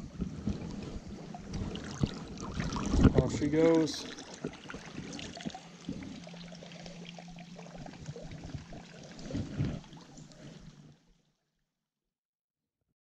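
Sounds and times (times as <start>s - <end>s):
river water trickling and sloshing: 0.0s - 11.5s
small water splashes: 0.1s - 11.0s.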